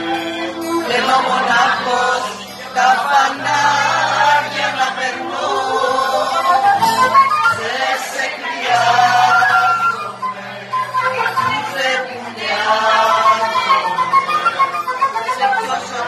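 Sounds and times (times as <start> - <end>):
acoustic guitar: 0.0 - 16.0
man singing: 0.0 - 16.0.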